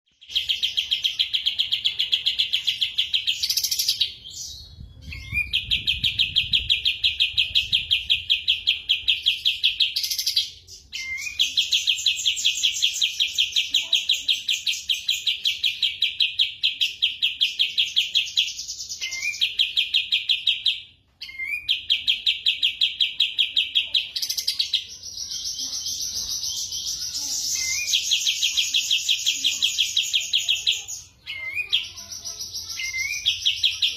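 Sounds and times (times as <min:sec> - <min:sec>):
songbird singing fast trills: 0:00.1 - 0:33.9.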